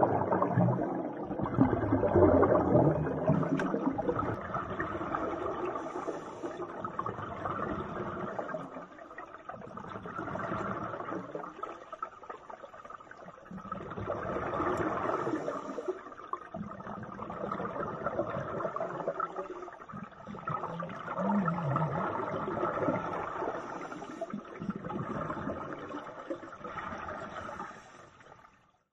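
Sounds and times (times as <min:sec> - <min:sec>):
underwater bubbling of exhaled air: 0:00.0 - 0:28.8.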